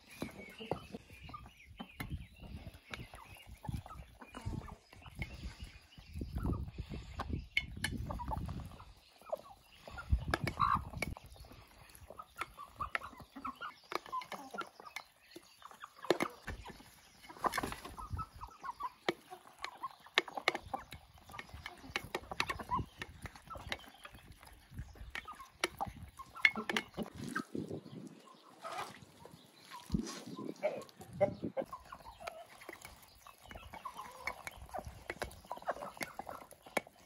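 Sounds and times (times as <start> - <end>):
hens clucking softly: 0.1 - 37.0.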